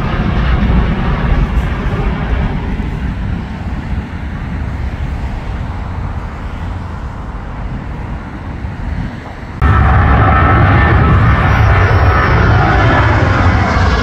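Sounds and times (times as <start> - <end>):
jet airliner passing overhead: 0.0 - 14.0.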